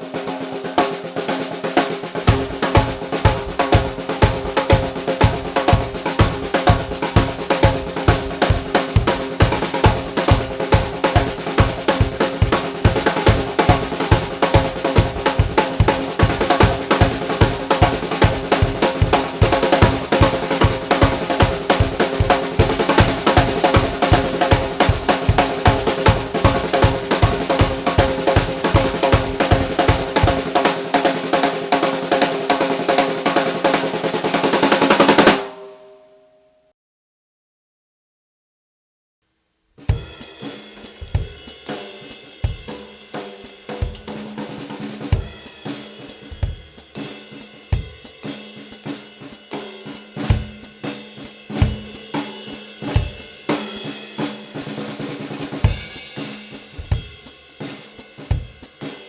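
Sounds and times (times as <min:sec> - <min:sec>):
snare drum playing: 0:00.0 - 0:35.7, 0:39.8 - 0:59.0
snare drum roll: 0:00.0 - 0:35.7, 0:39.8 - 0:59.0.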